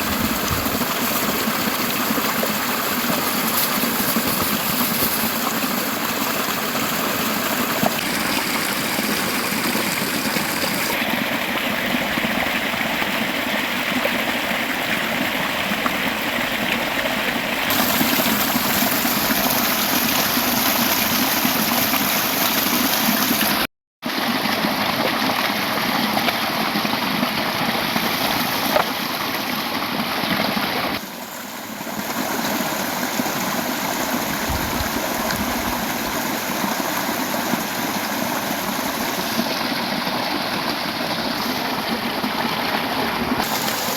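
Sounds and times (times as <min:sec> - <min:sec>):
river water running: 0:00.0 - 0:43.9.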